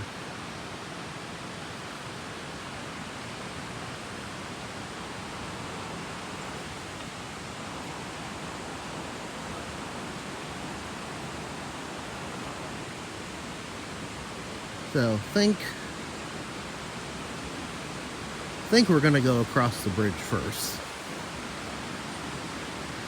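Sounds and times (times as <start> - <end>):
creek water rushing over rocks: 0.0 - 23.0.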